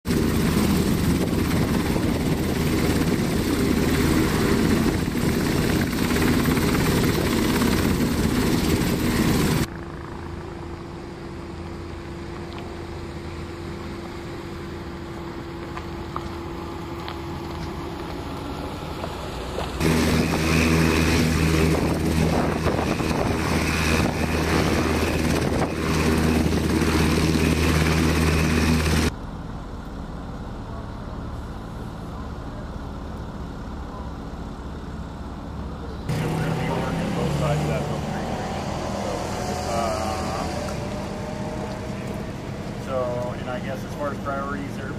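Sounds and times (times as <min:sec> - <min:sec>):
helicopter rotor and turbine noise: 0:00.0 - 0:44.9
truck engine: 0:00.1 - 0:44.9.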